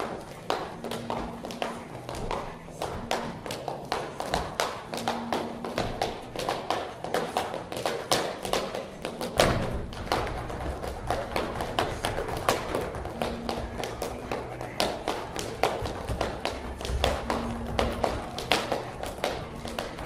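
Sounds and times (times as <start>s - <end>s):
high heels clicking on stage: 0.0s - 20.0s.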